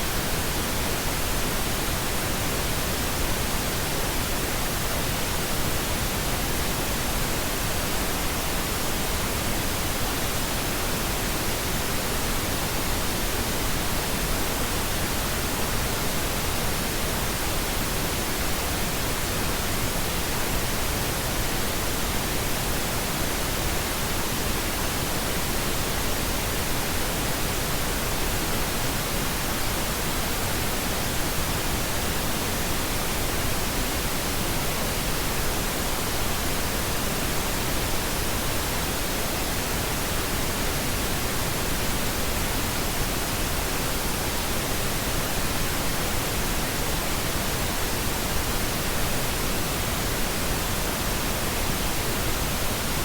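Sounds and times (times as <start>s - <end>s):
pink noise hiss: 0.0s - 53.0s.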